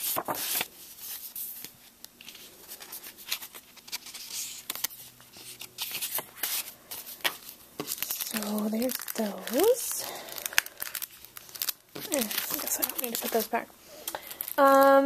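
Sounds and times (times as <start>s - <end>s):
cards rustling while flipped: 0.0s - 15.0s.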